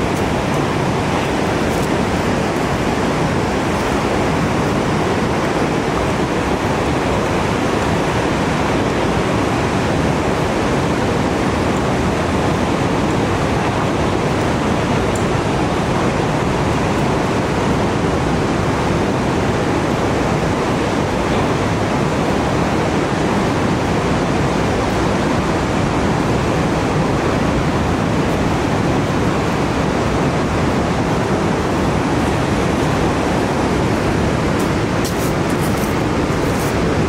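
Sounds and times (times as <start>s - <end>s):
ocean surf breaking: 0.0s - 37.0s.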